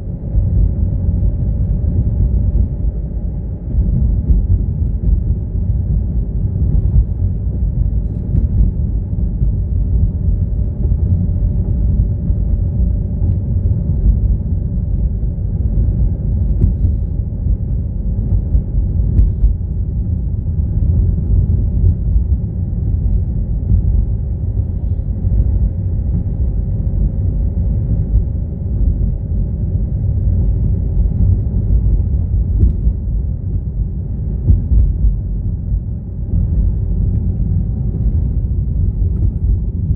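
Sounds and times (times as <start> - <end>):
car road and engine rumble: 0.0 - 39.9
faint steady hum: 0.0 - 39.9.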